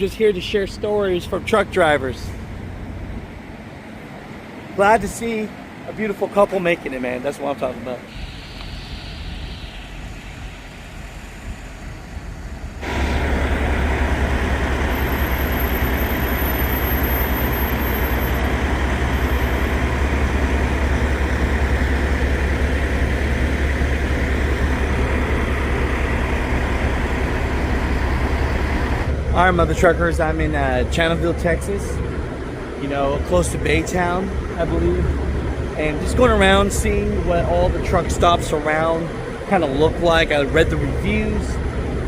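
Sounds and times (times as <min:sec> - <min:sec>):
outdoor background noise: 0:00.0 - 0:42.0
vehicle road and engine rumble: 0:00.0 - 0:42.0.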